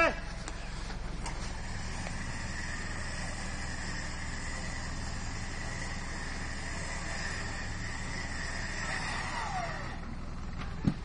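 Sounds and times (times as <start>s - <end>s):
engine running steadily: 0.0s - 11.0s
steady high whine: 0.0s - 11.0s.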